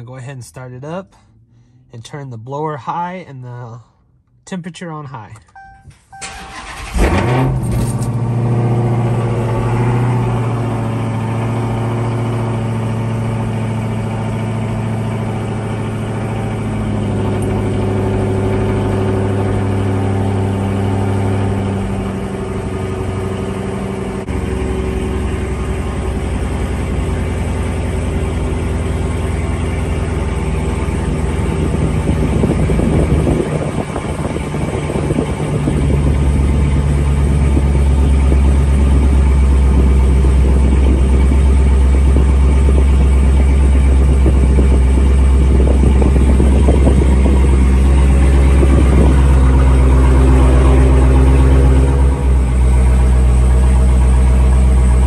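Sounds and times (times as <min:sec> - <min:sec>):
car engine idling: 0:05.2 - 0:55.0.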